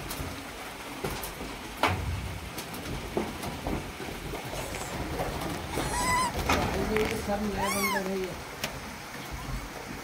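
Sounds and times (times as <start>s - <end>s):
rain hissing: 0.0s - 10.0s.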